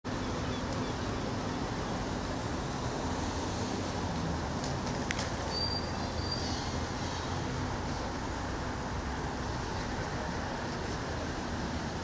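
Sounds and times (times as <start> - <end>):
street traffic hum and rumble: 0.0 - 12.0.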